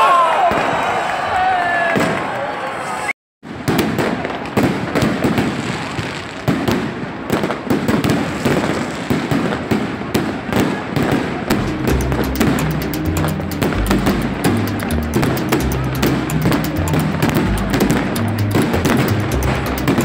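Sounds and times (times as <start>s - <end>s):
fireworks cracking and banging: 3.5s - 20.0s.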